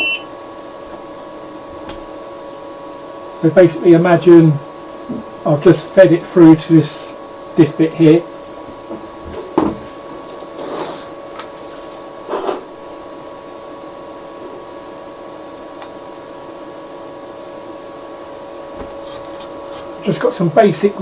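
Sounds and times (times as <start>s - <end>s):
printer fans and motors humming: 0.0s - 21.0s.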